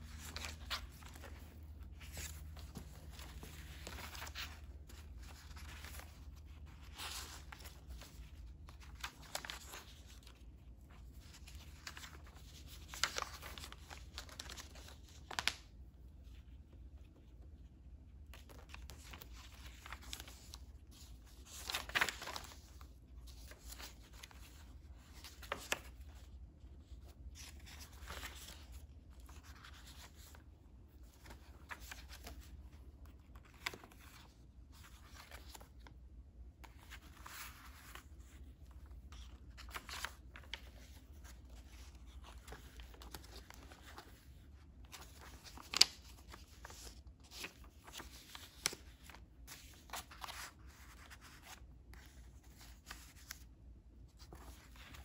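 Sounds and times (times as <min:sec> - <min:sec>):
paper pages rustling: 0:00.0 - 0:55.0.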